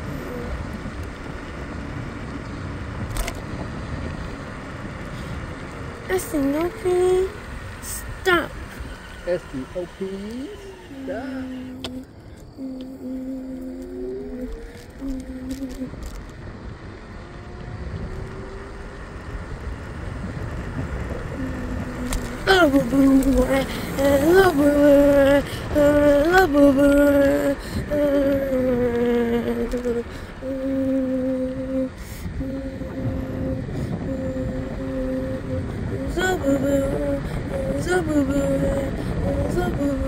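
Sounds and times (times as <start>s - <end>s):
scooter wheels rumbling on pavement: 0.0s - 40.0s.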